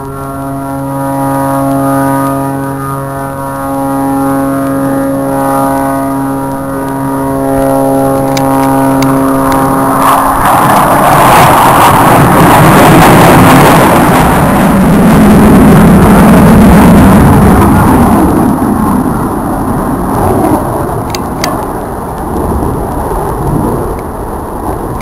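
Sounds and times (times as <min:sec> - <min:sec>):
airplane rushing roar: 0:00.0 - 0:25.0
propeller airplane engine droning: 0:00.0 - 0:25.0.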